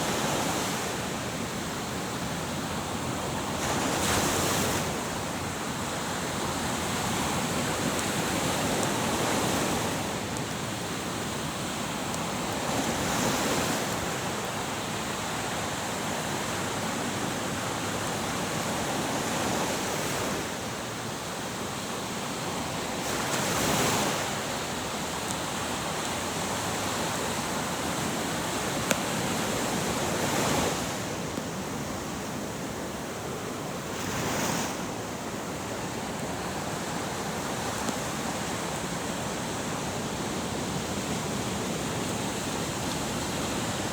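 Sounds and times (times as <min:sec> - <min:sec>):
waves breaking on shore: 0:00.0 - 0:43.9.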